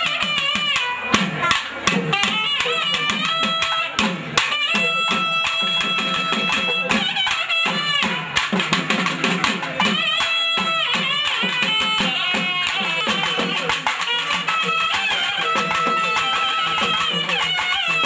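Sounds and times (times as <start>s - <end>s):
quick sharp drum strokes: 0.0s - 18.0s
wind instrument melody: 0.0s - 18.0s.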